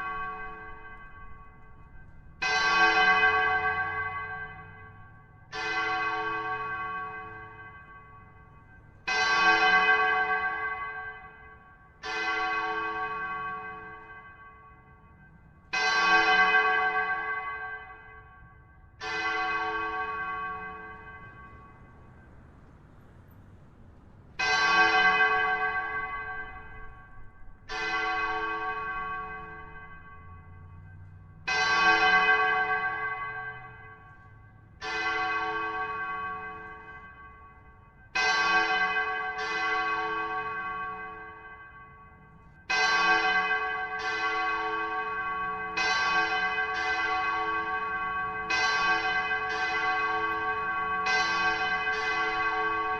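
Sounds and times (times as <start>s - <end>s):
large bell ringing: 0.0s - 52.9s.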